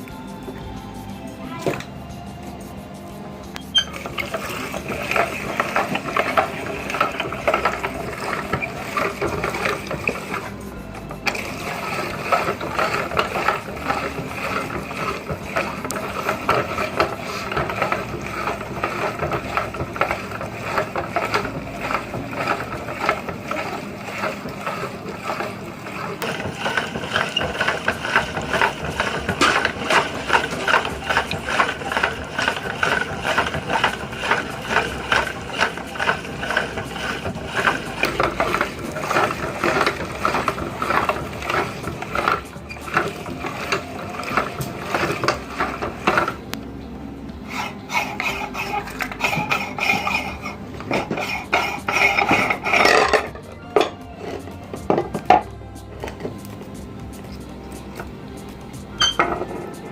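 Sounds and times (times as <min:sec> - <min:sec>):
marbles rattling in a meat grinder: 0:03.7 - 0:46.5, 0:47.6 - 0:56.5.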